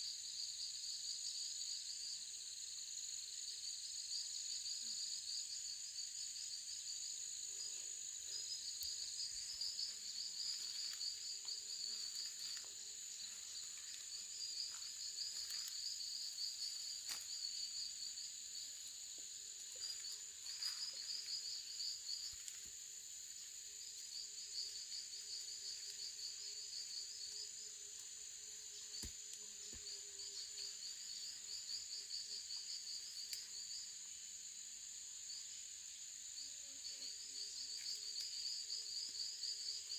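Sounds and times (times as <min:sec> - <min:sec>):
rapid insect chirping: 0:00.0 - 0:39.9.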